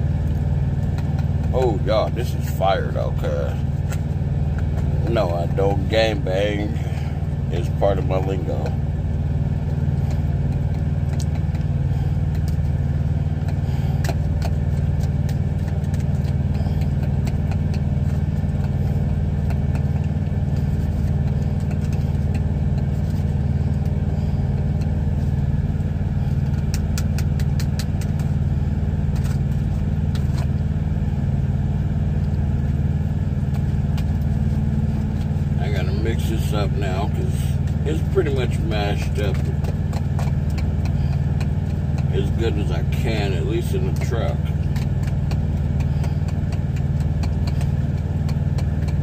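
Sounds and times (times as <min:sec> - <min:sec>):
truck engine idling: 0:00.0 - 0:49.0.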